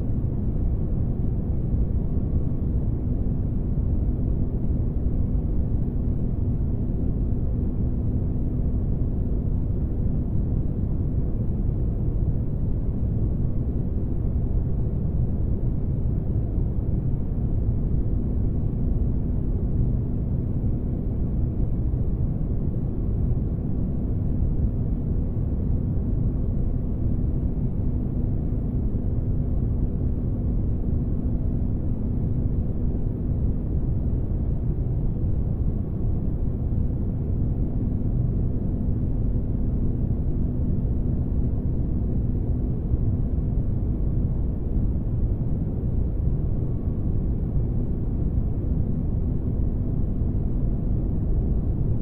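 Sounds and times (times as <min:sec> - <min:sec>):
faint constant hum: 0:00.0 - 0:52.0.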